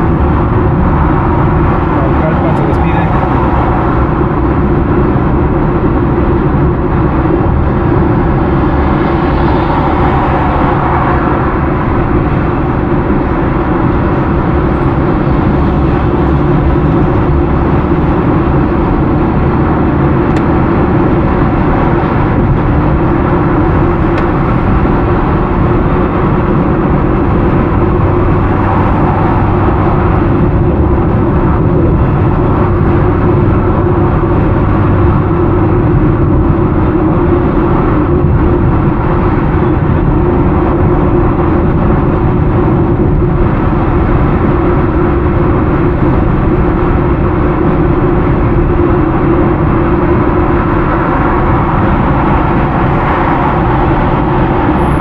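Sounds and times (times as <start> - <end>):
car road noise on highway: 0.0 - 55.0.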